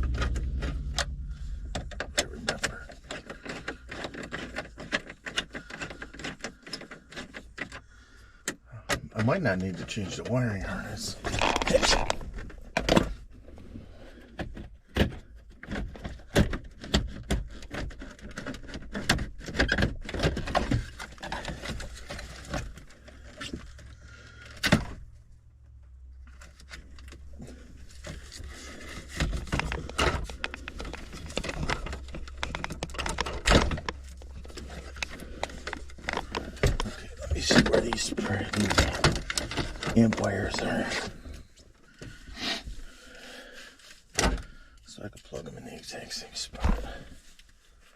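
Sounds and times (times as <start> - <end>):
hands working on car stereo: 0.0 - 43.0, 43.7 - 47.9.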